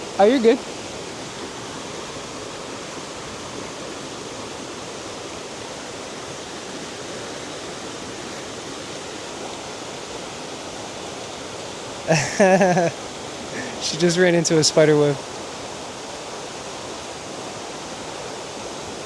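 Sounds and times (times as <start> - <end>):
river and waterfall rushing: 0.0 - 19.0.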